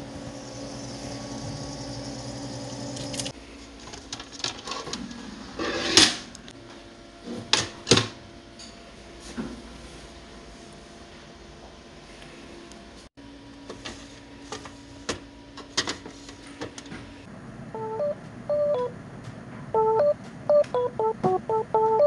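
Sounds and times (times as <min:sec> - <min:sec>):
refrigerator humming: 0:00.0 - 0:22.0.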